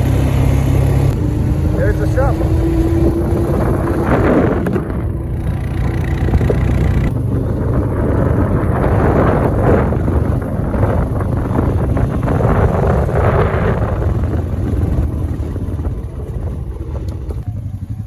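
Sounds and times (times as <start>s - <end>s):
wind buffeting microphone: 0.0s - 17.9s
atv engine running: 0.0s - 18.0s.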